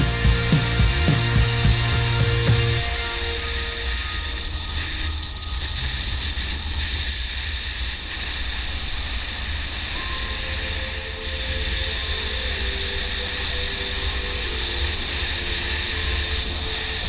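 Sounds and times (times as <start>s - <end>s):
wind rush and tyre noise: 3.3s - 17.0s.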